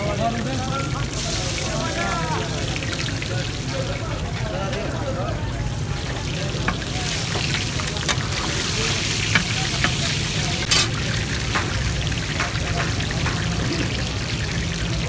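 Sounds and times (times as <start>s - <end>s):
meat sizzling in hot oil: 0.0s - 15.0s
street noise rumble: 0.0s - 15.0s.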